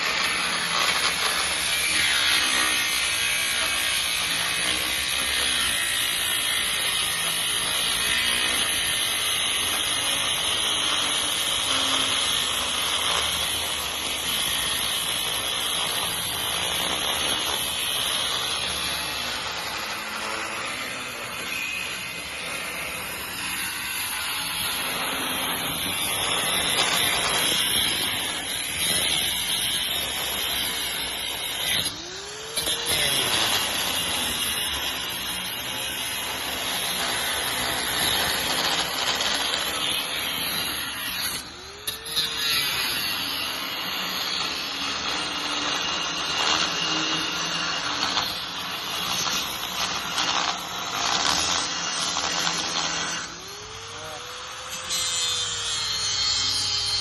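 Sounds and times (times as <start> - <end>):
power tool grinding steel: 0.0 - 57.0.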